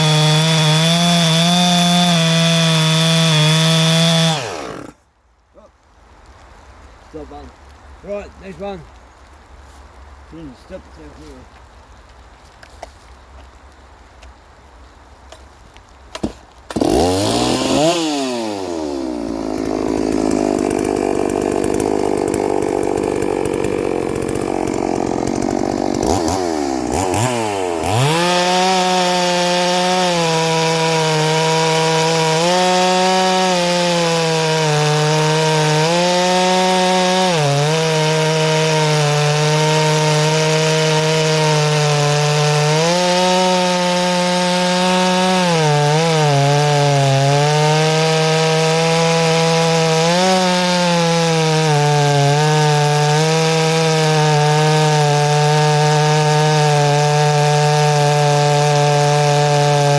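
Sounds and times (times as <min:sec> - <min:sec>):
chainsaw revving and cutting wood: 0:00.0 - 0:05.0, 0:16.1 - 0:59.9.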